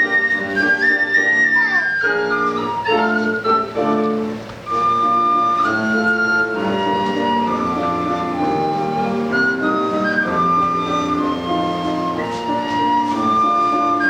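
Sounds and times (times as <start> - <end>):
piano accompaniment: 0.0 - 14.0
wooden flute melody: 0.0 - 14.0.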